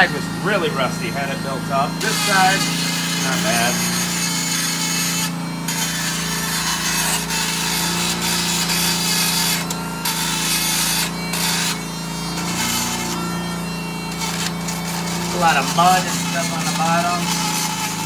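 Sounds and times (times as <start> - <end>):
motor hum: 0.0 - 18.0
rotary tool grinding metal: 0.0 - 18.0.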